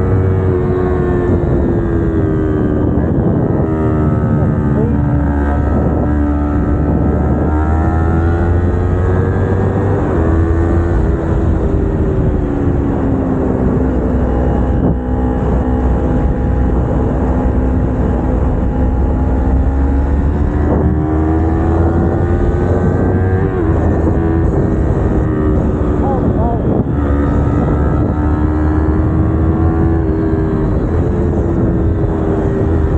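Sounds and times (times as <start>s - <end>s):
motorcycle engine running: 0.0s - 32.9s
wind rumble on microphone: 0.0s - 32.9s.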